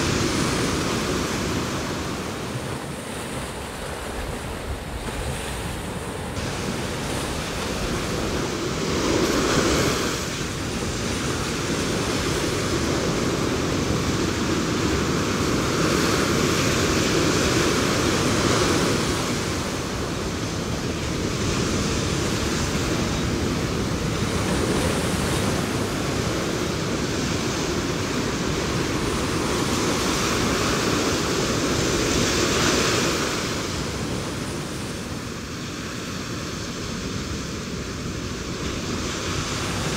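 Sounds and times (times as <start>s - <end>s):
ocean waves crashing on beach: 0.0s - 39.9s.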